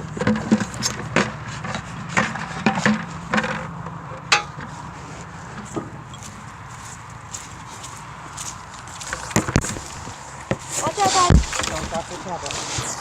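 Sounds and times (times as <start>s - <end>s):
knocks and scraping clatter: 0.0s - 13.0s.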